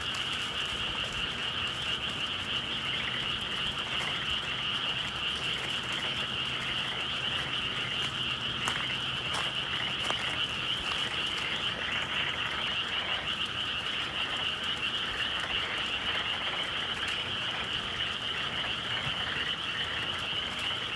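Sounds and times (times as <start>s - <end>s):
chorus of frogs trilling: 0.0s - 20.9s
faint crackles: 0.0s - 20.9s.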